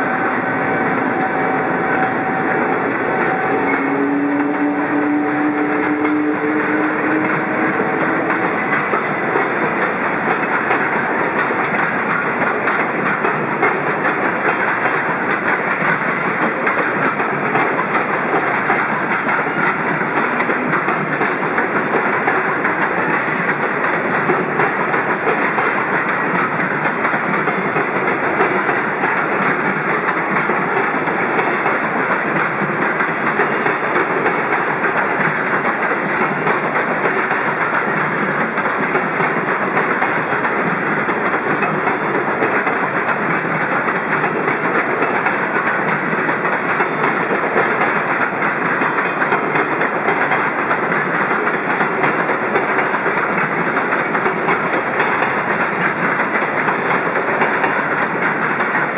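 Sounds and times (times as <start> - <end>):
freight train rumbling past: 0.0 - 58.9.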